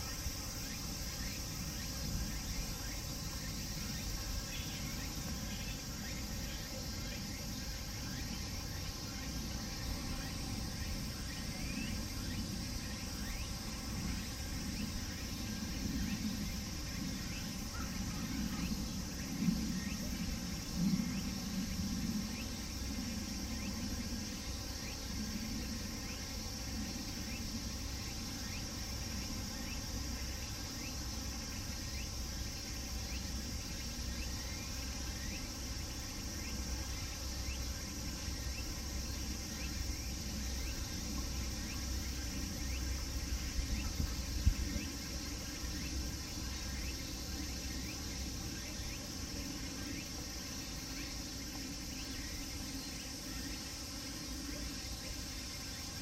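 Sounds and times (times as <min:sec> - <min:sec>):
cicadas singing: 0:00.0 - 0:56.0.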